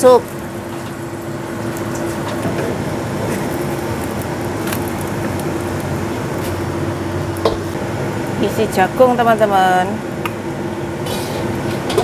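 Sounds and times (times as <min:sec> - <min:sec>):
fan motor running: 0:00.0 - 0:12.0
gas stove burner: 0:00.0 - 0:12.0.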